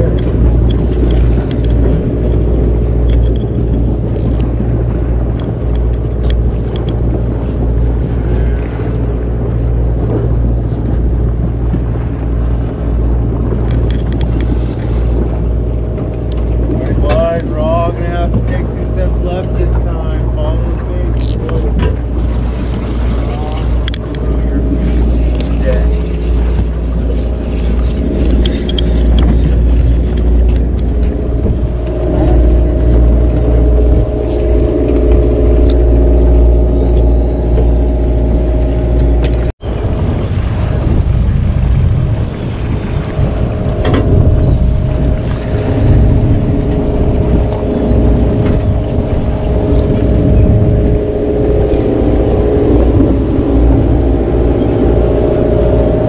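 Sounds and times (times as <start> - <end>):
boat engine humming: 0.0 - 56.0
water rushing noise: 0.0 - 56.0.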